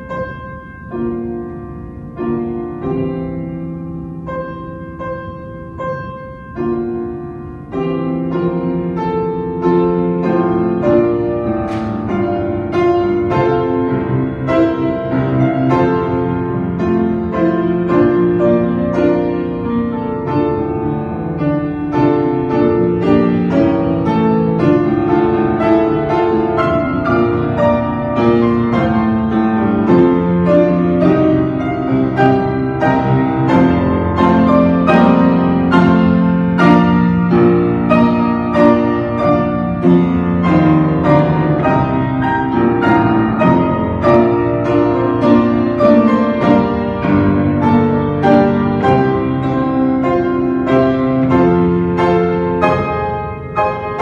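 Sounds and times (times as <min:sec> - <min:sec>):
piano music: 0:00.0 - 0:54.0.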